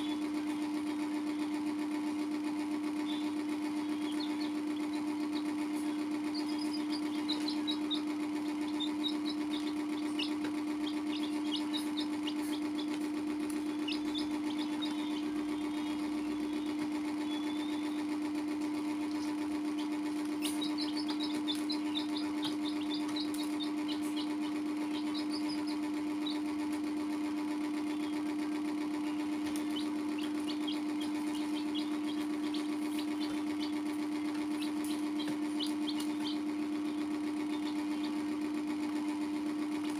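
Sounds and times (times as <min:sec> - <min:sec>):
chicks peeping: 0:00.0 - 0:39.9
steady machine hum: 0:00.0 - 0:39.9.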